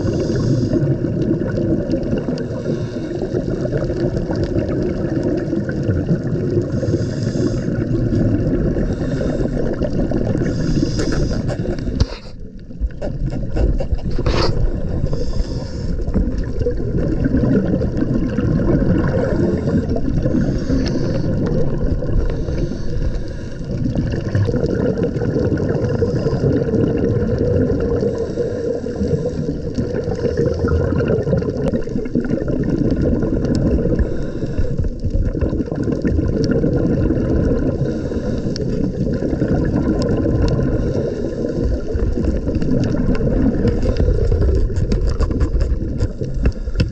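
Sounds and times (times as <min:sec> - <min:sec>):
underwater rumble of moving water: 0:00.0 - 0:46.9.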